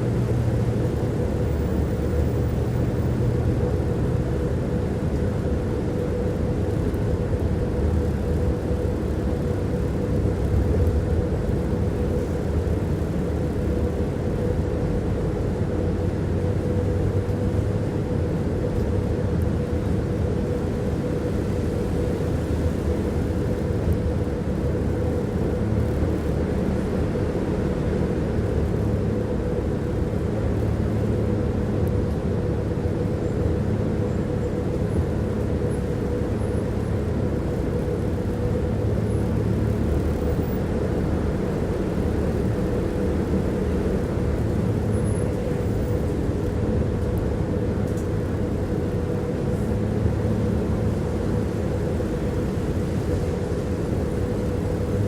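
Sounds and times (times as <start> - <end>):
mid-pitched whine: 0.0 - 55.0
tram wheels rumbling on rails: 0.0 - 55.0.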